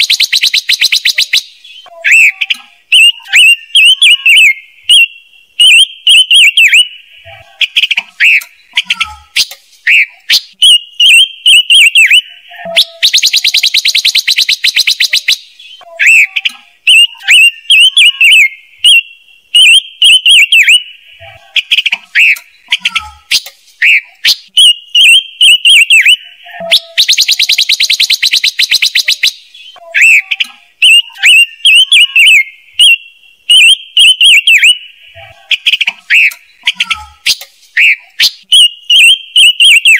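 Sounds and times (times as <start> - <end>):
bird whistled chirps: 2.9 - 7.1, 7.8 - 15.9, 16.9 - 21.0, 21.7 - 30.2, 30.8 - 34.9, 35.6 - 39.9.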